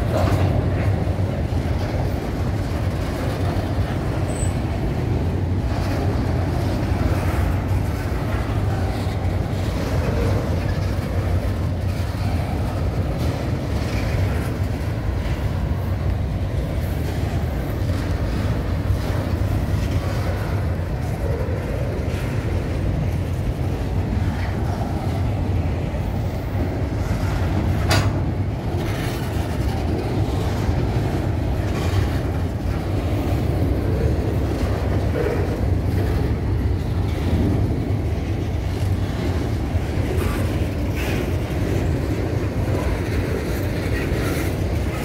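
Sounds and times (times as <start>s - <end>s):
clickety-clack over rail joints: 0.0s - 45.0s
train wheels rumbling on rails: 0.0s - 45.0s.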